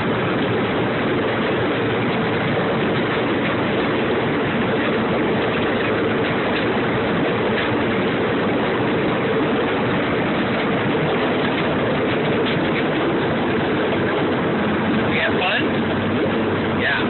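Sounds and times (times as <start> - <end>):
ride-on train running drone: 0.0 - 17.0.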